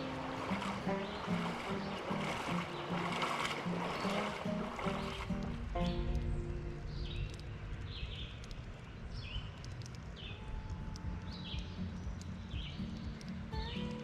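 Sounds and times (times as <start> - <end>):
bird chirping: 0.0 - 14.0
low outdoor rumble: 0.0 - 14.0.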